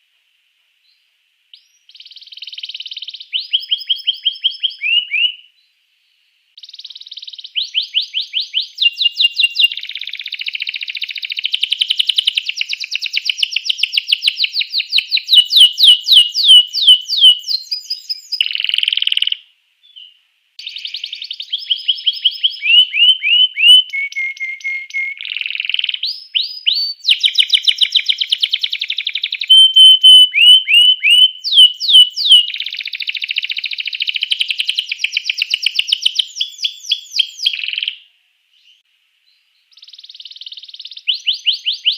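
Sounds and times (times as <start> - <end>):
canary singing chirps and trills: 0.9 - 5.7, 6.6 - 41.9.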